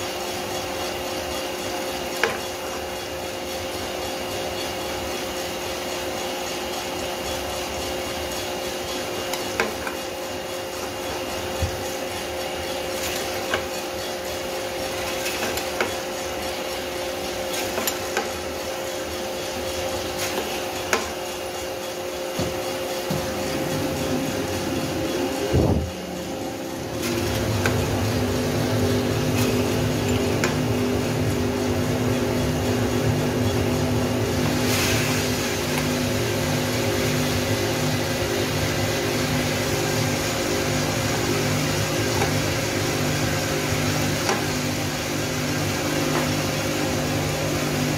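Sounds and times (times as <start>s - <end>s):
drum coffee roaster running: 0.0s - 47.9s.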